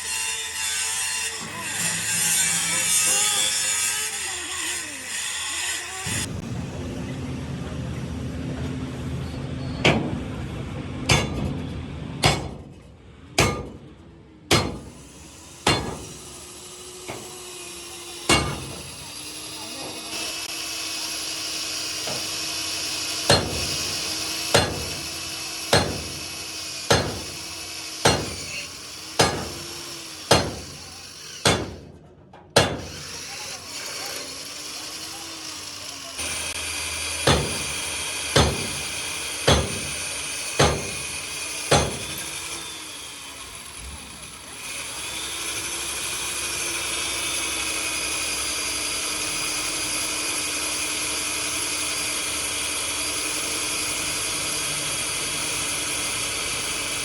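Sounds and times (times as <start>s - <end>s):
workshop noise: 0.0s - 57.0s.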